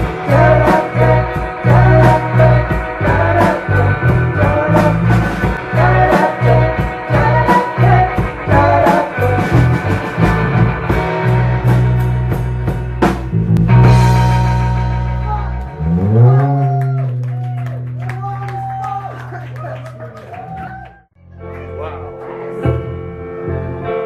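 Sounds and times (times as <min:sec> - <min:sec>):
guitar melodic lines: 0:00.0 - 0:19.3
steady bass line: 0:00.0 - 0:22.0
rock band playing: 0:00.0 - 0:24.0.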